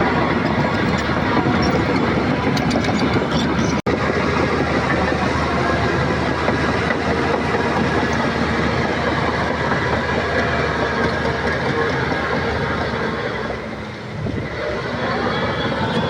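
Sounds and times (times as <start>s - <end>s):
bulldozer diesel engine running: 0.0s - 16.0s
steel tracks clattering: 0.0s - 16.0s.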